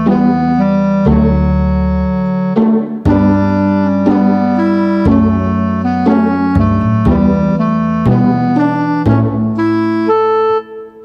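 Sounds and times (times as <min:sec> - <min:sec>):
slow instrumental chords: 0:00.0 - 0:11.0.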